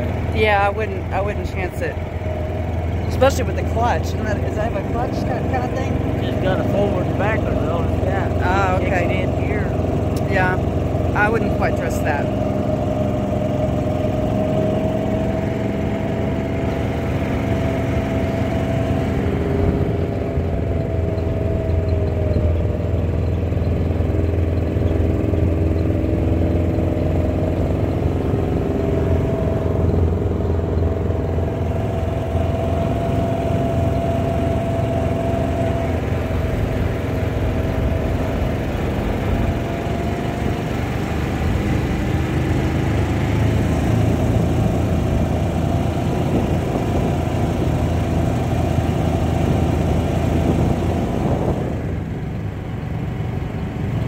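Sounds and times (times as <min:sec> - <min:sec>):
utility vehicle engine droning: 0:00.0 - 0:54.0.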